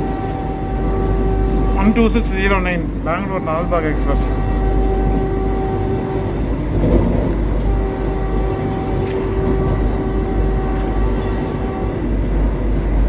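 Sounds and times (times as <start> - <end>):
constant whine: 0.0 - 13.0
train low rumble: 0.0 - 13.0.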